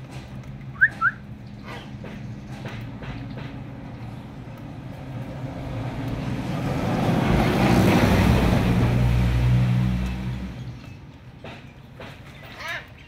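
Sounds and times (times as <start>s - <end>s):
vehicle engine passing by: 0.0s - 11.2s.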